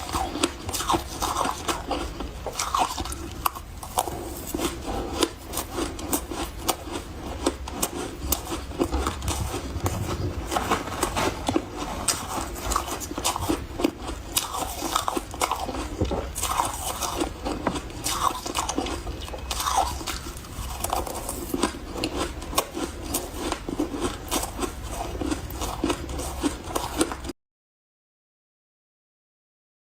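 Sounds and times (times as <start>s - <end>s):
chewing crunchy ice: 0.0s - 27.3s.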